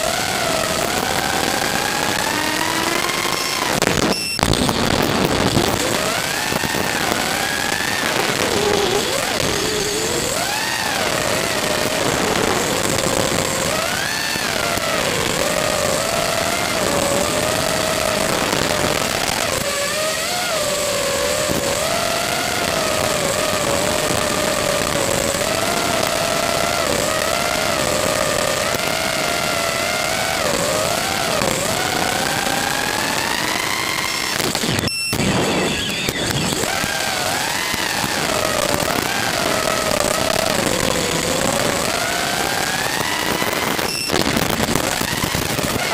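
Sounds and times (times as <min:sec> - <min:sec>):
drone motors whining: 0:00.0 - 0:45.9
static crackle: 0:00.0 - 0:45.9.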